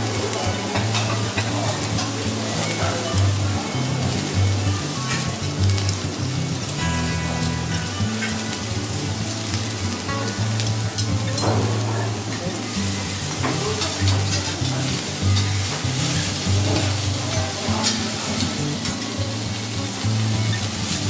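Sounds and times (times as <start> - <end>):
food sizzling on griddle: 0.0 - 21.0.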